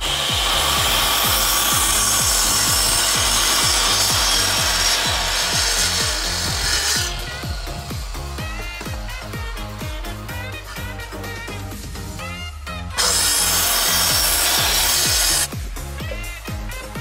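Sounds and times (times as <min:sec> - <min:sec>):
backing music with steady beat: 0:00.0 - 0:17.0
mitre saw cutting timber: 0:00.0 - 0:17.0.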